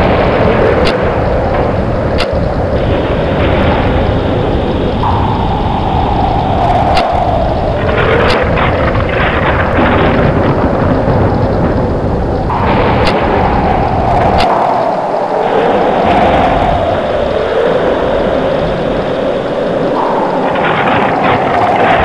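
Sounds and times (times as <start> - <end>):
deep thunder rumble: 0.0 - 22.0
sharp thunder cracks: 0.0 - 22.0
wind howling: 0.0 - 22.0.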